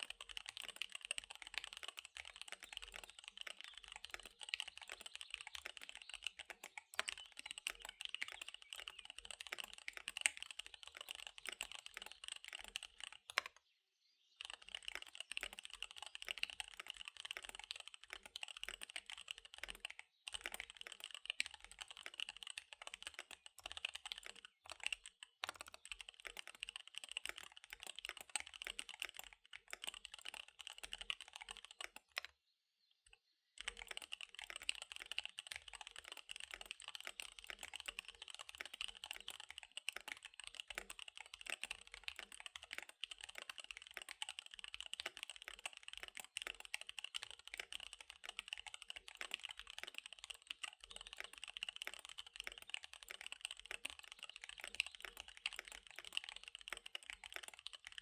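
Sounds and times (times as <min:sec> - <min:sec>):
fast mechanical keyboard typing: 0:00.0 - 0:13.5, 0:14.4 - 0:32.3, 0:33.6 - 0:58.0.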